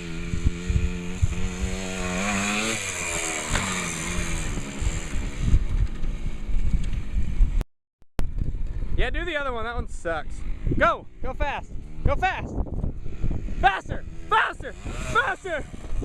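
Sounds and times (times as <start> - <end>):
small motorbike engine revving: 0.0 - 7.6, 10.2 - 16.0.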